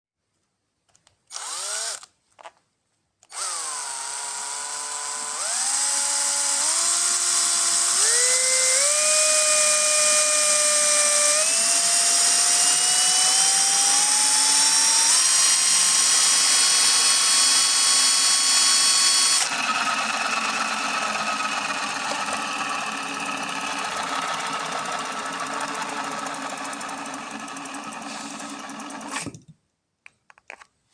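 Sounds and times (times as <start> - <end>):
electric drill motor whining: 1.3 - 2.1, 3.2 - 29.4.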